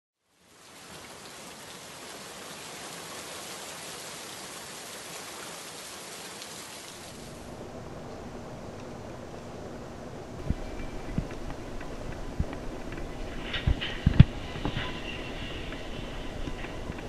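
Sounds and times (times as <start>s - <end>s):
steady rain falling: 0.2s - 17.0s.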